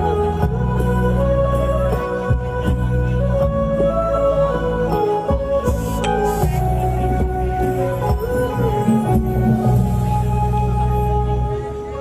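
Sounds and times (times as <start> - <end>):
steady bass line: 0.0 - 12.0.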